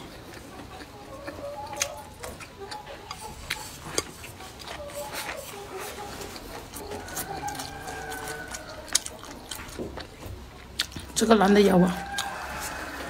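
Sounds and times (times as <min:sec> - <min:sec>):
person chewing with mouth clicks: 0:00.0 - 0:11.3, 0:12.0 - 0:13.0.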